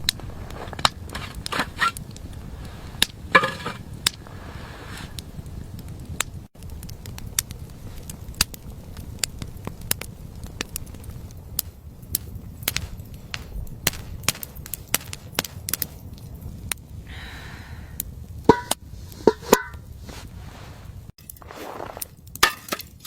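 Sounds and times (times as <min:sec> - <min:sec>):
sharp crackles and snaps: 0:00.0 - 0:17.1, 0:18.0 - 0:23.0
steady low rumble: 0:00.0 - 0:21.2.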